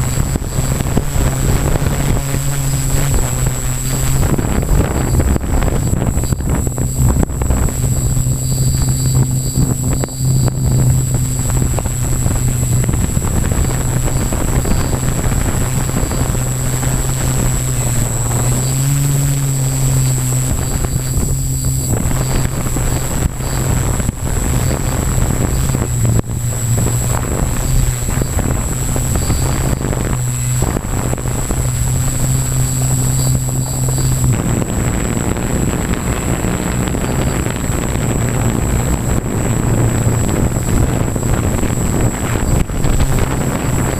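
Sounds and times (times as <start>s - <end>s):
drone motors humming: 0.0s - 43.9s
thin high whine: 0.0s - 43.9s
wind buffeting microphone: 0.0s - 43.9s.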